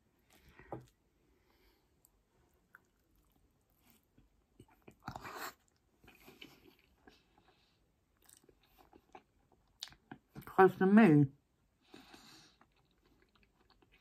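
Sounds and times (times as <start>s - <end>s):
close-up chewing: 0.0s - 10.5s, 11.8s - 14.0s.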